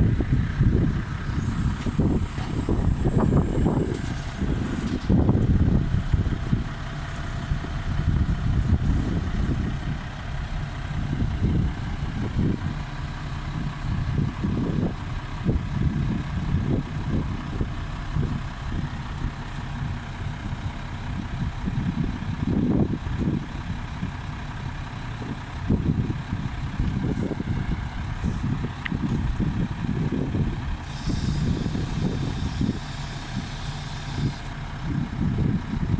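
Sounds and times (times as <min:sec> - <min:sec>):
wind gusting on microphone: 0:00.0 - 0:24.3, 0:25.1 - 0:35.9
heavy vehicle engine running: 0:00.0 - 0:35.9.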